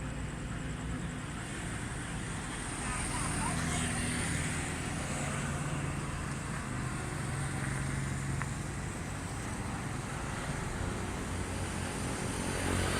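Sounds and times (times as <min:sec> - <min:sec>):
engine humming: 0:00.0 - 0:12.9
traffic noise: 0:00.0 - 0:12.9.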